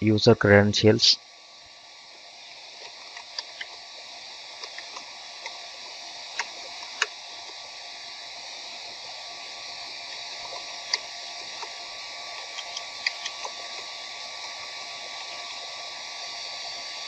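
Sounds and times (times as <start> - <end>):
microphone hiss: 0.0 - 17.0.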